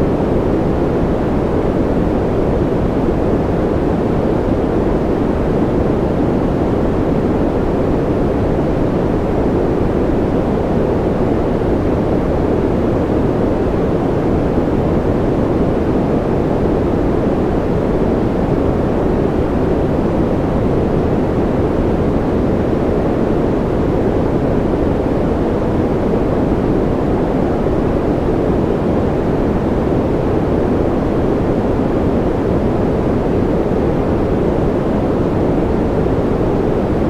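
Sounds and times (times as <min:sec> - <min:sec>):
deep white noise hiss: 0:00.0 - 0:37.0.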